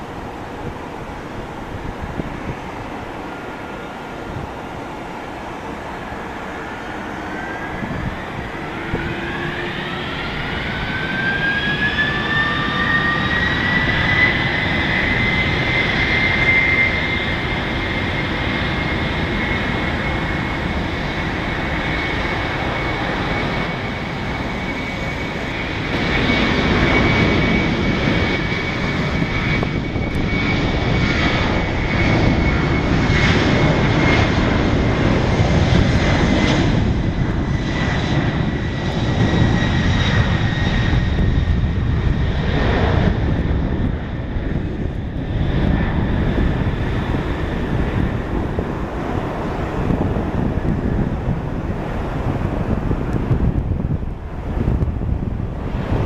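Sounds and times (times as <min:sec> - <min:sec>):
jet engine roar: 0:00.0 - 0:56.0
jet engine whine: 0:00.0 - 0:56.0.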